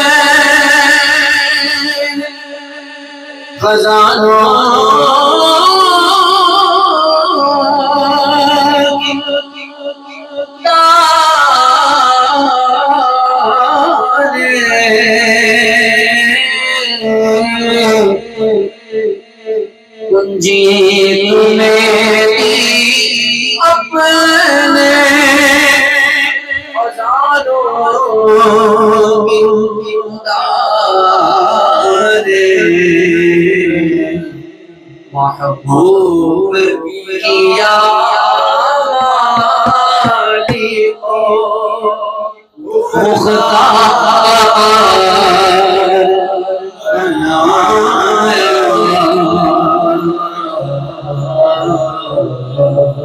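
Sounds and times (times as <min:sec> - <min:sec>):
man singing: 0:00.0 - 0:53.0.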